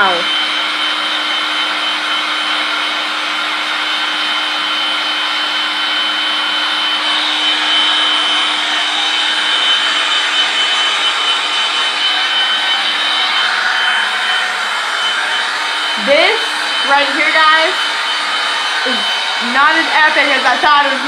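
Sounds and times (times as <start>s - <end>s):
air pump blowing with whine: 0.0s - 21.0s.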